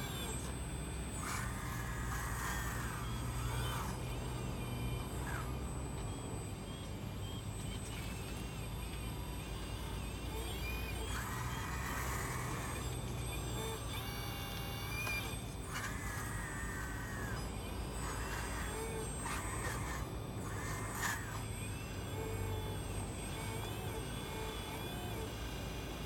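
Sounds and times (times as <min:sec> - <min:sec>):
electric pump whining: 0:00.0 - 0:26.0
steady low hum: 0:00.0 - 0:26.0.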